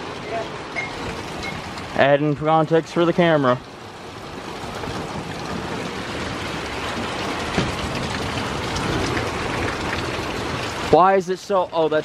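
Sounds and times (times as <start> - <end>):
heavy rain pouring: 0.0 - 12.0
raindrops tapping surfaces: 0.0 - 12.0
wind: 0.0 - 12.0.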